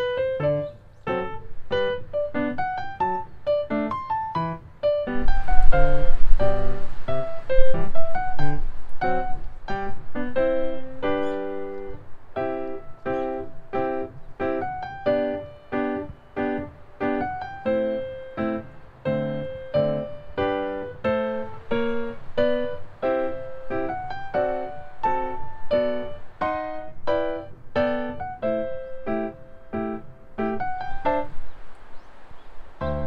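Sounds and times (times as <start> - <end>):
piano music: 0.0 - 32.1, 32.7 - 33.0.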